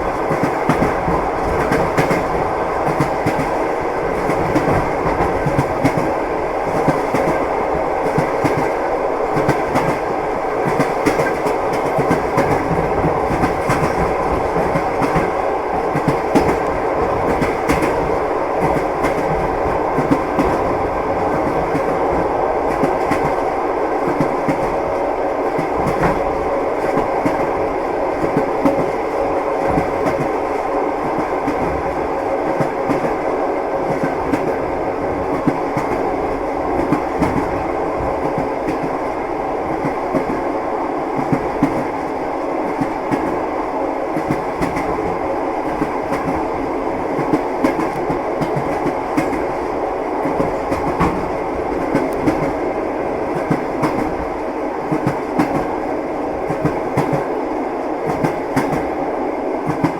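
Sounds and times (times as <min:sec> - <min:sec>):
train wheels clattering on rails: 0:00.0 - 0:40.5, 0:41.1 - 0:43.4, 0:44.1 - 0:57.4, 0:58.0 - 0:59.0, 0:59.6 - 0:59.9.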